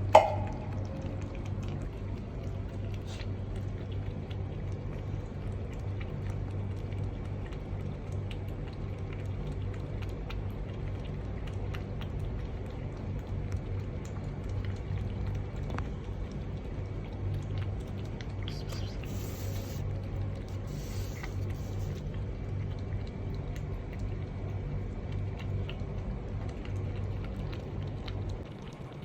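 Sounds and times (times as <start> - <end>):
constant hum: 0.0 - 29.0
low background rumble: 0.0 - 29.0.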